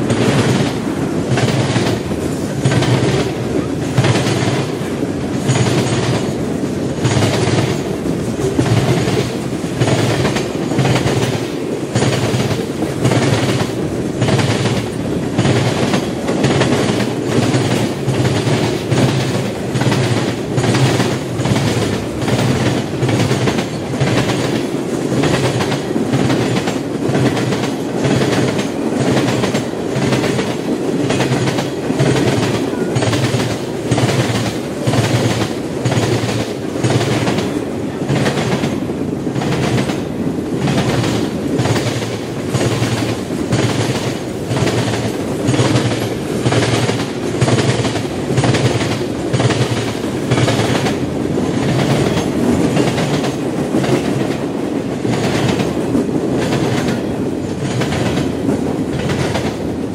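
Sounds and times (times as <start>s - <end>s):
train rumble: 0.0s - 59.9s
wheels clicking over rail joints: 0.0s - 59.9s.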